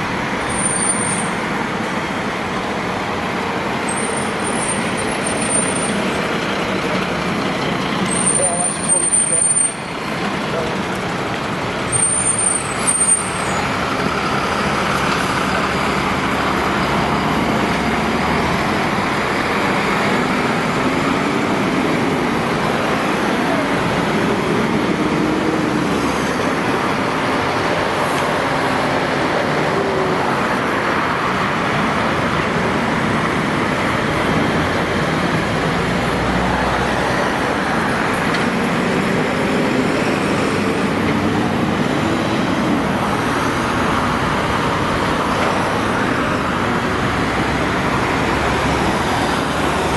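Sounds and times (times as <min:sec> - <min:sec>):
diesel engine and road noise: 0:00.0 - 0:49.9
fire engines driving past: 0:00.0 - 0:49.9.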